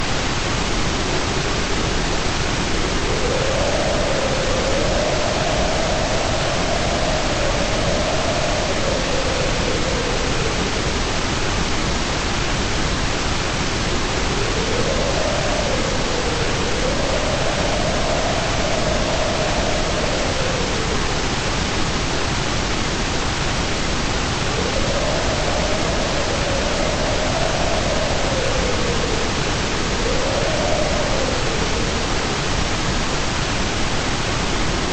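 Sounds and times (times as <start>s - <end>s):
steady white noise: 0.0s - 34.9s.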